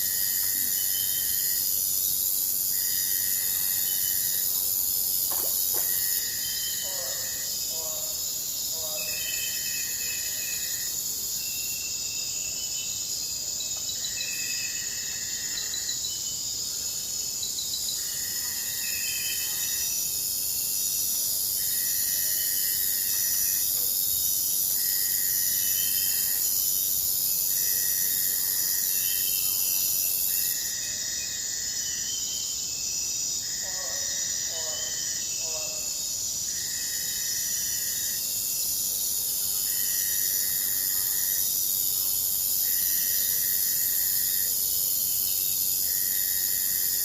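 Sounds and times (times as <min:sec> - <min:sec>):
insect trills: 0:00.0 - 0:47.0
pulsing insect call: 0:00.0 - 0:47.0.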